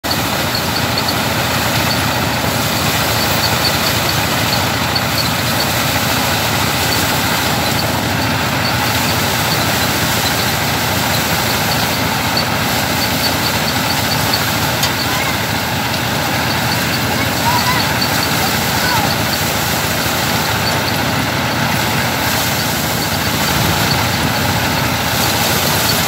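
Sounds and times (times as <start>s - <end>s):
thresher machine running: 0.0s - 26.0s.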